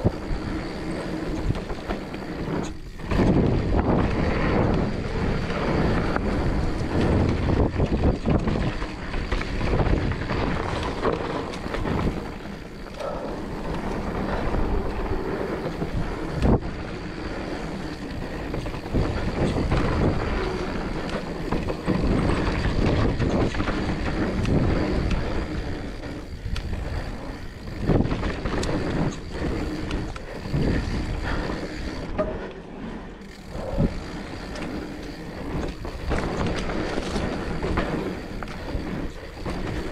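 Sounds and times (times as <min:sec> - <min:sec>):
wind buffeting microphone: 0:00.0 - 0:32.6, 0:33.2 - 0:39.9
bike rattling and knocking: 0:00.0 - 0:39.9
tyres rolling on dirt and leaves: 0:00.0 - 0:39.9.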